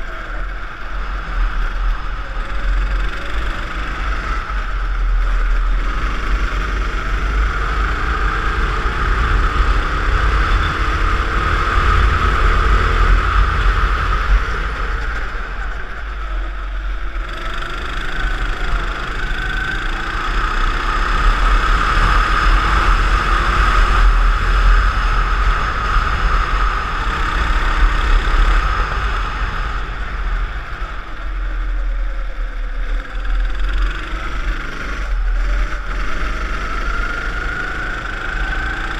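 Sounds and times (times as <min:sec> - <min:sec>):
go-kart engine running: 0:00.0 - 0:38.9
wind rumble on microphone: 0:00.0 - 0:38.9.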